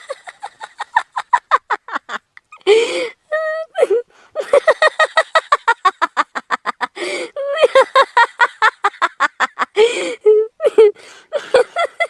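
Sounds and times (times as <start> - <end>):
woman laughing: 0.0 - 12.0.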